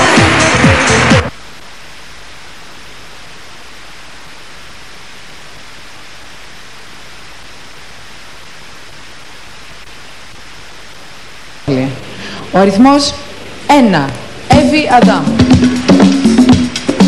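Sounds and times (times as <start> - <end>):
steady recording hiss: 0.0 - 17.0.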